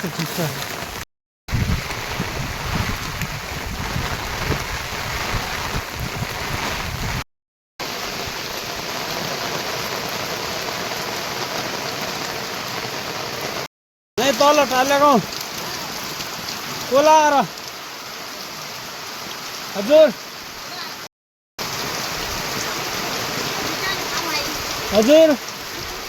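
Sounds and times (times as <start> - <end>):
heavy rain falling: 0.0 - 7.2, 7.8 - 26.0.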